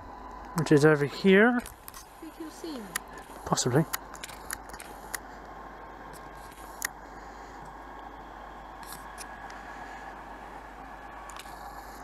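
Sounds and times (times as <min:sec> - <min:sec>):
low outdoor noise: 0:00.0 - 0:12.0.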